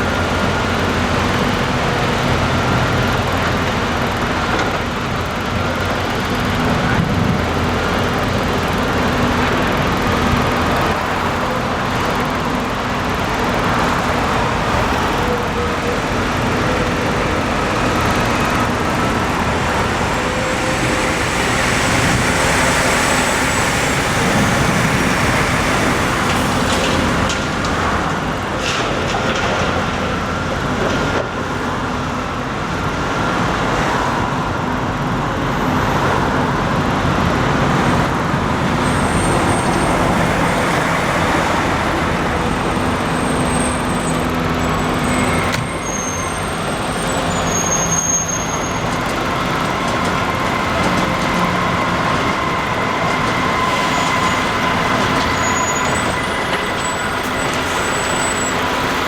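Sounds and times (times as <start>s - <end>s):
heavy diesel vehicles running: 0.0s - 59.0s
road traffic: 0.0s - 59.0s.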